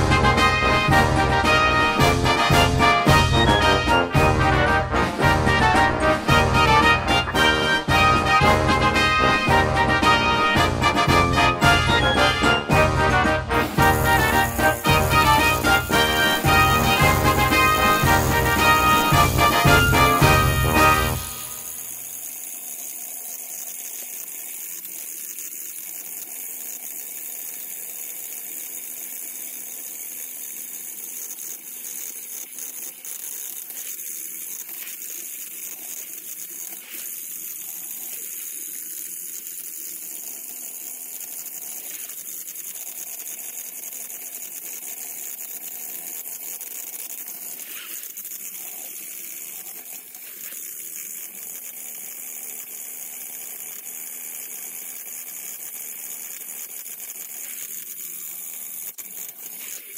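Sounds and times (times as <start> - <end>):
toy train motors whirring: 0.0 - 59.9.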